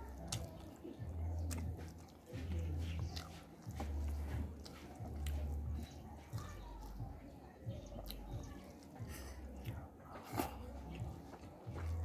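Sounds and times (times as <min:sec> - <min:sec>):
mouth chewing clicks and smacks: 0:00.0 - 0:12.0.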